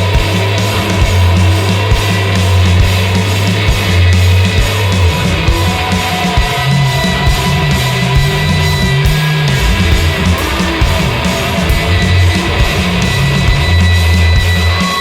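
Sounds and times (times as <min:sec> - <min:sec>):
bass guitar: 0:00.0 - 0:15.0
distorted electric guitar: 0:00.0 - 0:15.0
drum beat: 0:00.0 - 0:15.0.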